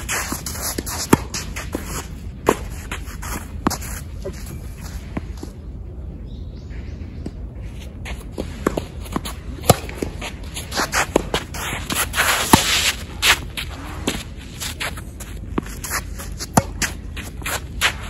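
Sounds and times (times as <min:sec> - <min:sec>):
tennis ball hitting rackets: 0:00.0 - 0:05.5, 0:08.0 - 0:18.0
footsteps scraping across court: 0:00.0 - 0:05.7, 0:07.6 - 0:18.0.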